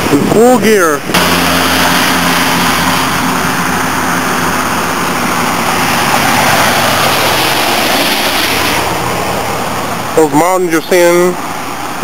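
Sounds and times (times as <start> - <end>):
low engine hum: 0.0 - 12.0
road and wind noise: 0.0 - 12.0.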